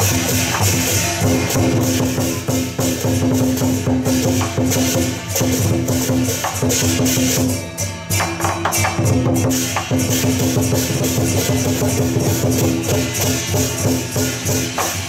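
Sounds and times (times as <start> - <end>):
fast drum and cymbal beats: 0.0 - 15.0.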